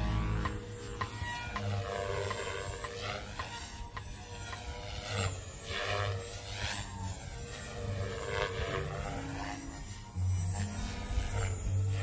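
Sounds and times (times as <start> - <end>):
model aircraft motor whine: 0.0 - 12.0.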